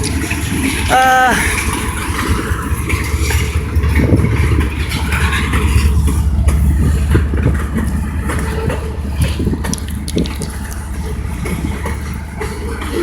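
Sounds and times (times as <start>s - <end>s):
freight train rumbling past: 0.0s - 13.0s
wheels clanking and knocking: 0.0s - 13.0s.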